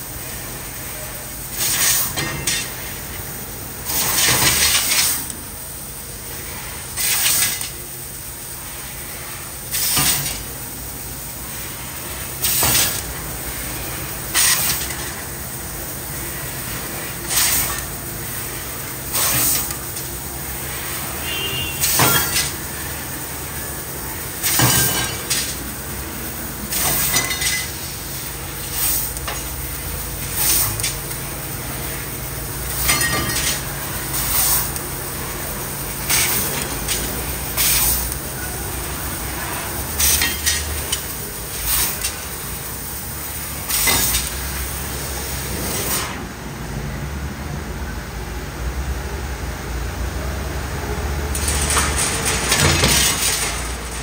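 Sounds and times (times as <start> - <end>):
laser cutter hissing bursts: 0.0 - 46.2.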